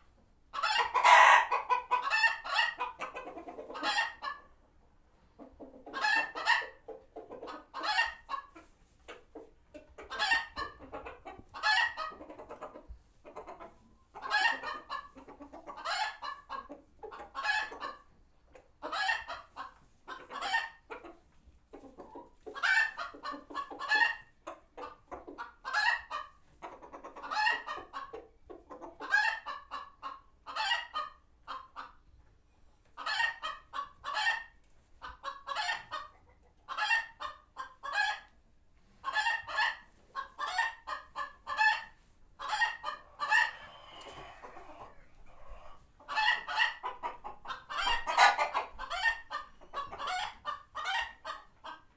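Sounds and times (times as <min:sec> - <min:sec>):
chickens alarm clucking: 0:00.5 - 0:51.9.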